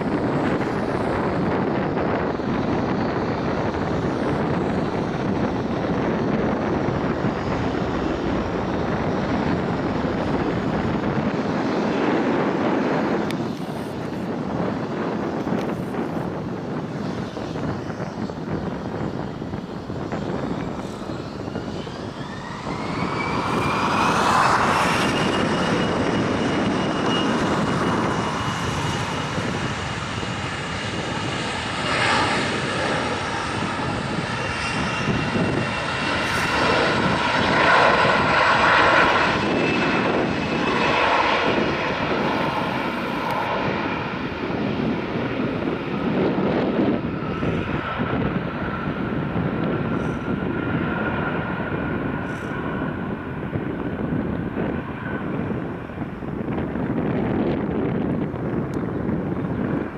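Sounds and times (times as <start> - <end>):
jet engine roar: 0.0 - 59.9
jet engine whine: 0.0 - 59.9.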